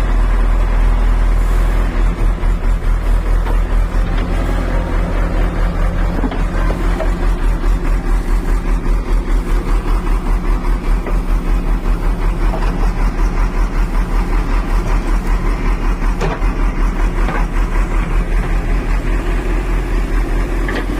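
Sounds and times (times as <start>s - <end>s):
excavator engine running: 0.0s - 20.9s.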